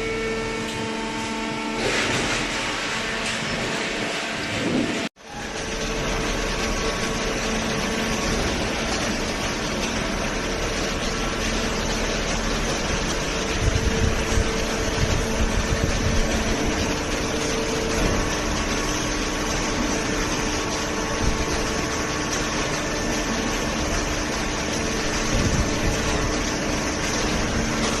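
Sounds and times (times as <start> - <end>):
hydraulic baler humming: 0.0 - 28.0
low knocking and rumbling: 2.2 - 28.0.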